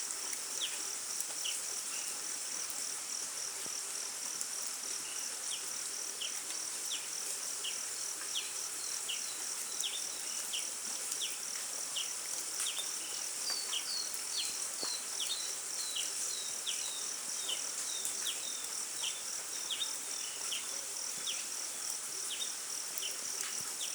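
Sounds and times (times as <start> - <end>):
insects chorus: 0.1 - 23.9.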